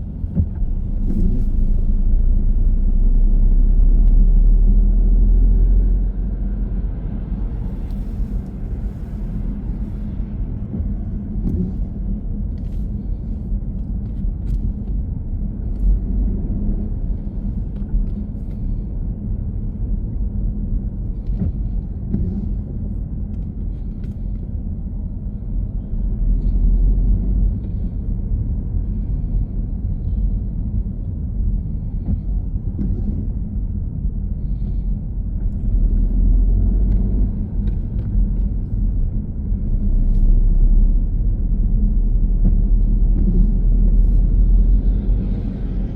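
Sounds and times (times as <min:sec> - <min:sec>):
car road and engine rumble: 0:00.0 - 0:45.9.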